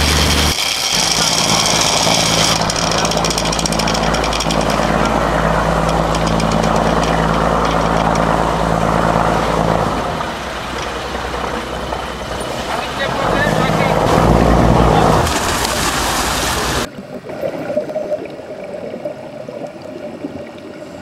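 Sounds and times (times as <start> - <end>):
boat engine idling: 0.0 - 16.9
water sloshing and splashing: 1.2 - 21.0.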